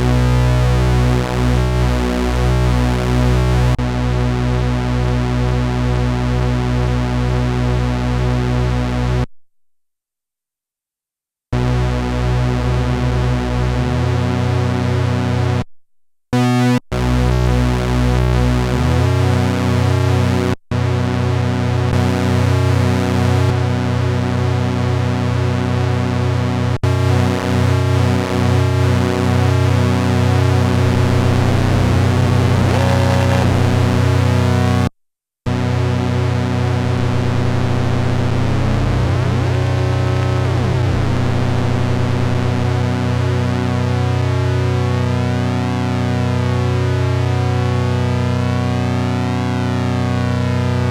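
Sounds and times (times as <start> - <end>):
synthesizer chords over bass note: 0.0 - 9.3, 11.6 - 15.5, 16.4 - 20.4, 21.7 - 23.8, 26.9 - 34.9, 35.5 - 50.9.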